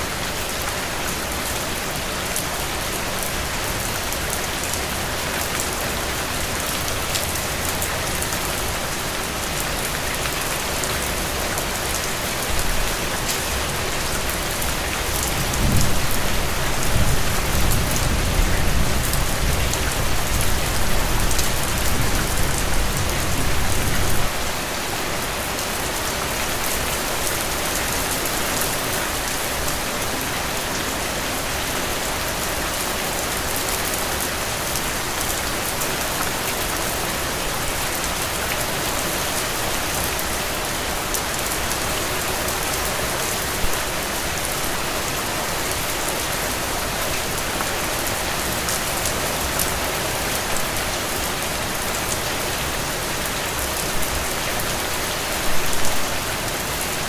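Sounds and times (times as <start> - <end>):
heavy rain splashing: 0.0 - 57.0.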